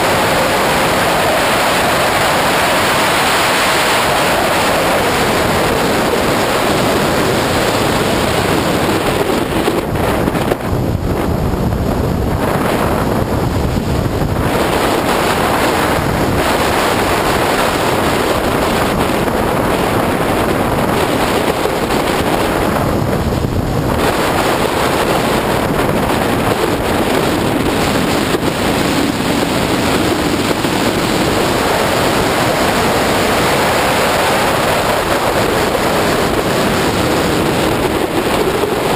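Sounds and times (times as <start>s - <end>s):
road and car noise: 0.0s - 38.9s
wind rushing over microphone: 0.0s - 38.9s.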